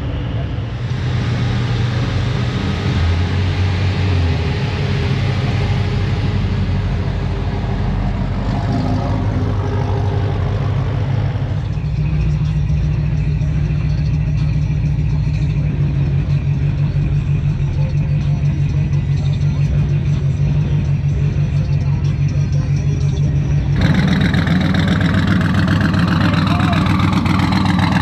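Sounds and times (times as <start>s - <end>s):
truck engine humming: 0.0s - 28.0s.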